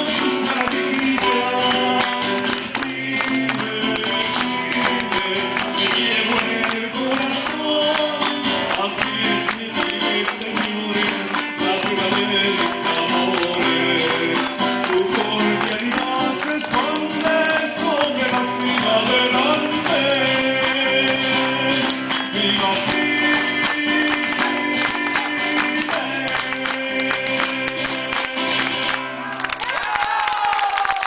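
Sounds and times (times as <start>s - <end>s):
man singing: 0.0s - 29.2s
strummed acoustic guitar: 0.0s - 29.3s.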